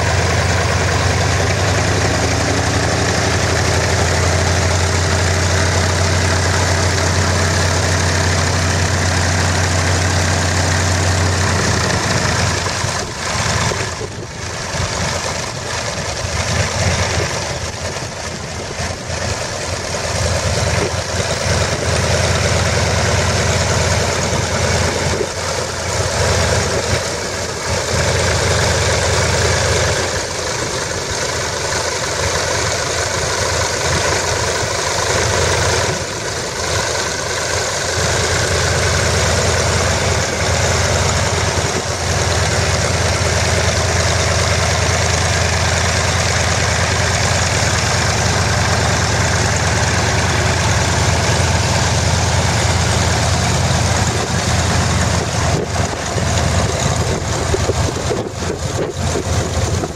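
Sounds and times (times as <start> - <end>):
radial engine idling: 0.0 - 59.9.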